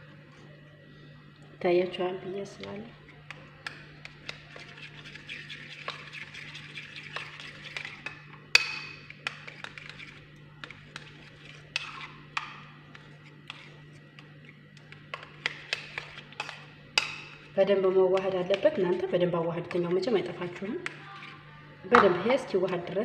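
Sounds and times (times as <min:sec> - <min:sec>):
spoon stirring and scraping bowl: 0:02.6 - 0:17.6, 0:18.2 - 0:23.0.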